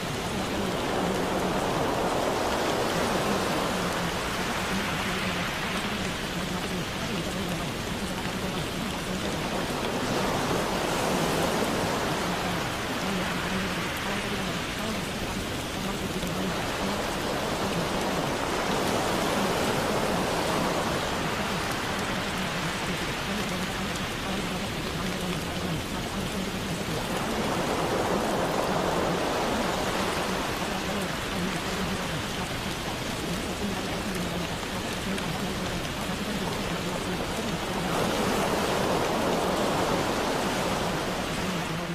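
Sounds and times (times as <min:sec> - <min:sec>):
rain hiss: 0:00.0 - 0:41.9.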